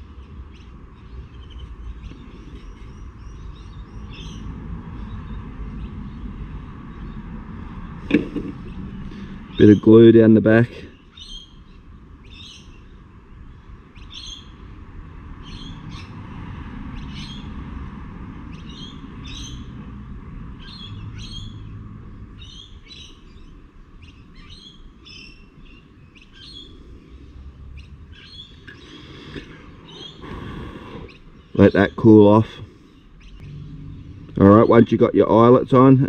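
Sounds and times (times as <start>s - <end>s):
bird chirping: 0.0s - 14.7s, 15.4s - 16.2s, 16.9s - 17.6s, 18.5s - 19.8s, 20.6s - 36.0s.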